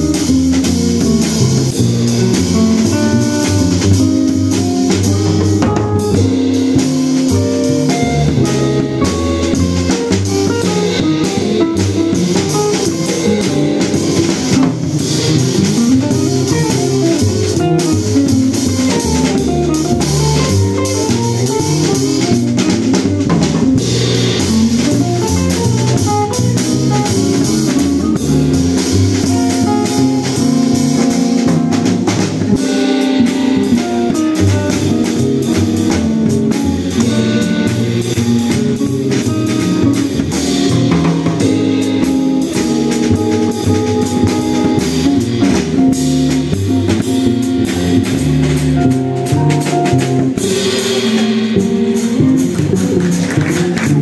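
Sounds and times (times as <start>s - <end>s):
double bass: 0.0s - 54.0s
drum kit: 0.0s - 54.0s
jazz guitar solo: 0.0s - 54.0s.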